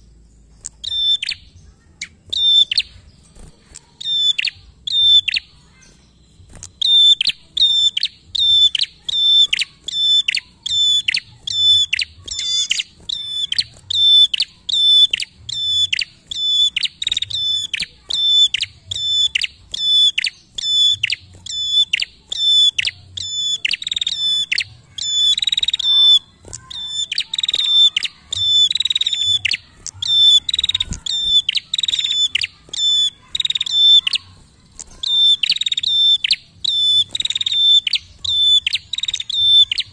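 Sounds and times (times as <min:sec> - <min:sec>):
bird singing sharp high notes: 0:00.0 - 0:39.9.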